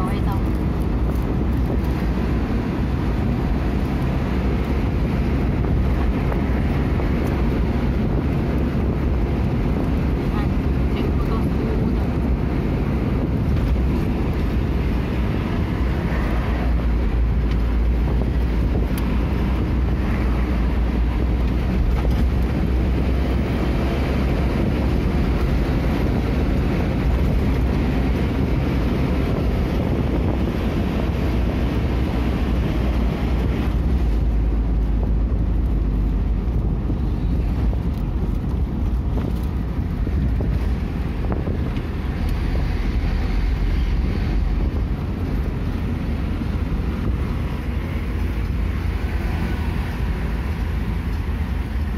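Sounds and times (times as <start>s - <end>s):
vehicle road and engine rumble: 0.0s - 51.9s
wind noise: 0.0s - 51.9s.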